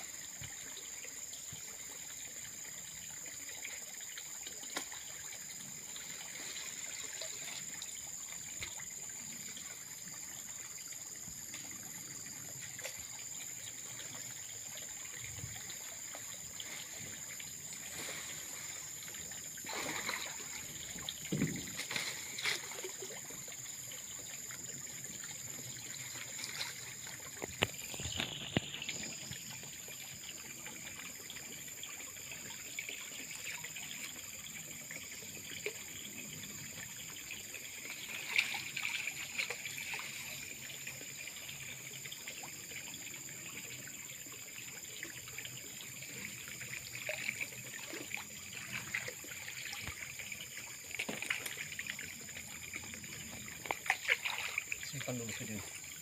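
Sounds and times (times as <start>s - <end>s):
pond water splashing: 0.0s - 56.0s.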